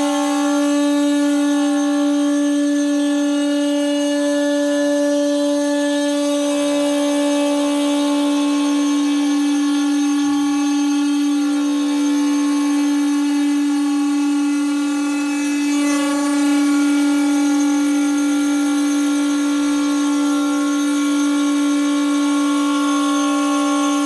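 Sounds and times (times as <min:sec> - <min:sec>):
cnc router spindle whining: 0:00.0 - 0:24.0.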